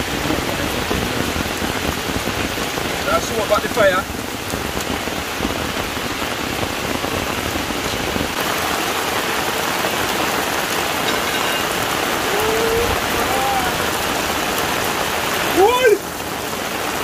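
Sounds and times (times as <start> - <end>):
heavy rain on ground and leaves: 0.0 - 17.0.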